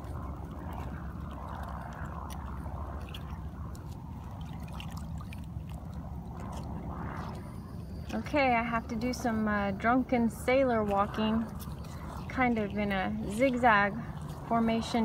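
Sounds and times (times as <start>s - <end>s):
low rumble: 0.0s - 15.0s
water sloshing at shore: 0.0s - 15.0s.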